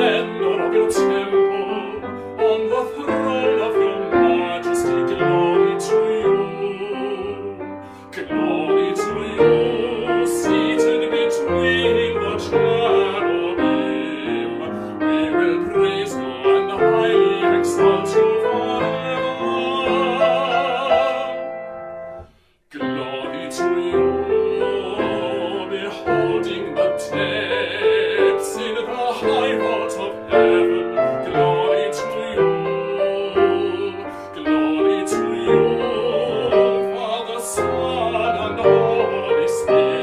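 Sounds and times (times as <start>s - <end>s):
man singing operatically: 0.0s - 22.0s, 22.7s - 40.0s
grand piano: 0.0s - 40.0s.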